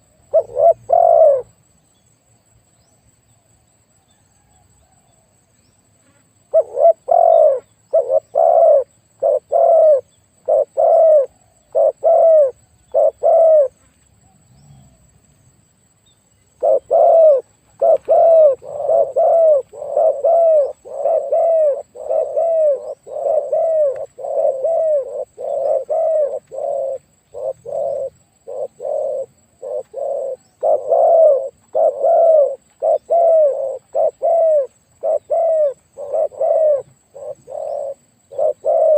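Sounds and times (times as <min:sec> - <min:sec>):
dove cooing: 0:00.0 - 0:01.6, 0:06.5 - 0:15.1, 0:16.5 - 0:38.9.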